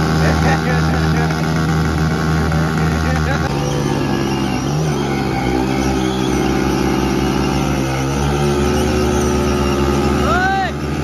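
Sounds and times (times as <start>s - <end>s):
motorcycle engines revving high: 0.0s - 11.0s
rear wheels spinning: 0.0s - 11.0s.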